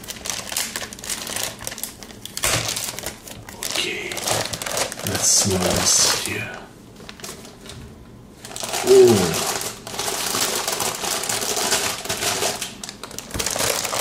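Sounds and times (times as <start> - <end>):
packaging rustling and crinkling: 0.0 - 6.4, 7.0 - 7.8, 8.4 - 14.0.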